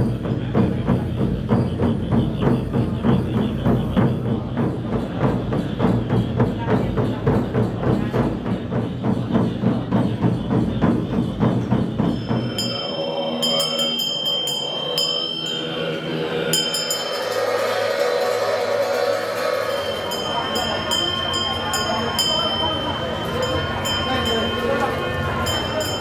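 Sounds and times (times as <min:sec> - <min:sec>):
frame drums beaten: 0:00.0 - 0:26.0
voices: 0:00.0 - 0:26.0
bells ringing: 0:01.0 - 0:26.0.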